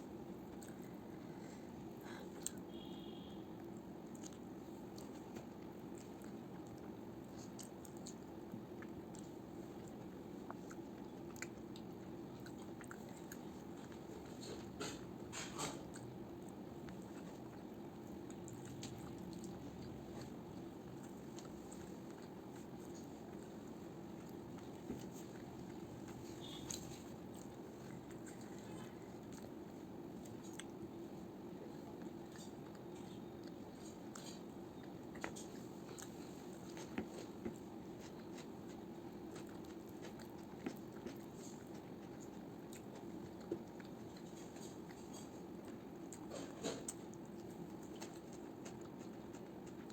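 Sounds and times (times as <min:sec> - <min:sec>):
steady low hum: 0:00.0 - 0:49.9
person chewing food: 0:00.1 - 0:49.9.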